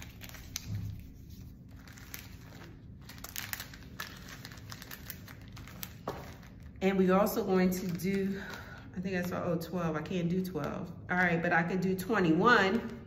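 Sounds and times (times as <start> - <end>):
paper bills and plastic crinkling: 0.0 - 11.5, 12.2 - 13.0.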